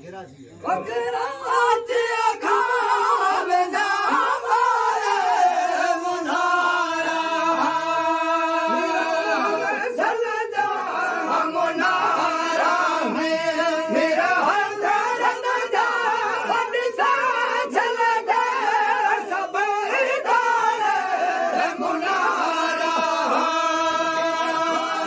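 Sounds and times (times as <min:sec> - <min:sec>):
men singing unaccompanied: 0:00.6 - 0:25.0.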